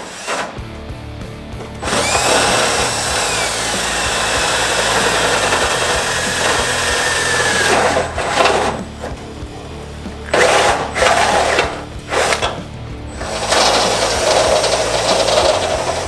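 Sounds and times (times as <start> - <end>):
drill grinding through sheet metal: 0.0 - 0.8, 1.8 - 16.0
background music: 0.0 - 16.0.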